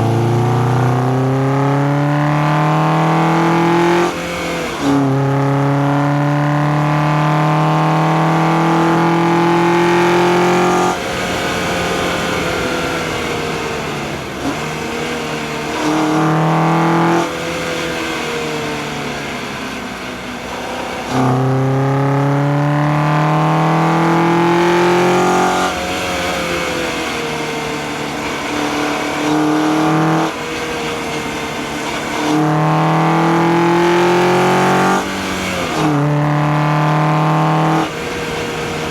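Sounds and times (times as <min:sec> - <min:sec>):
car engine pulling under load: 0:00.0 - 0:38.9.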